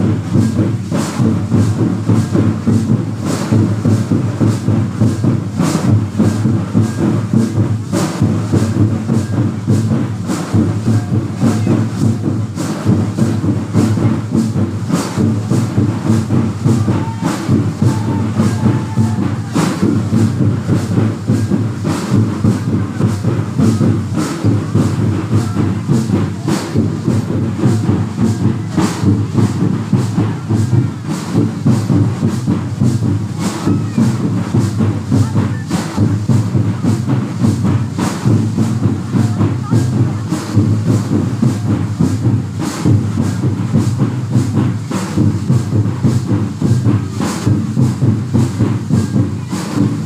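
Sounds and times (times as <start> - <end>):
fast folk drumming: 0.0 - 50.0.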